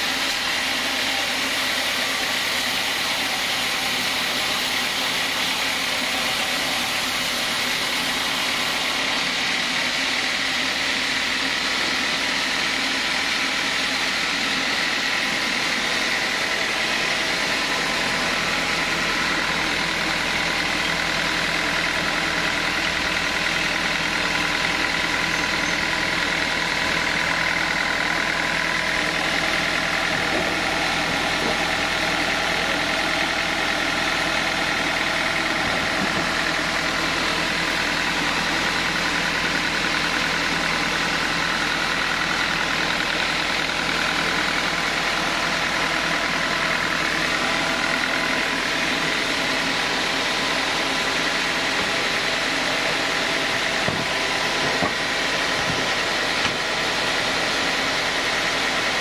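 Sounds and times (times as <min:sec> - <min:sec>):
band saw droning with high whine: 0:00.0 - 0:59.0.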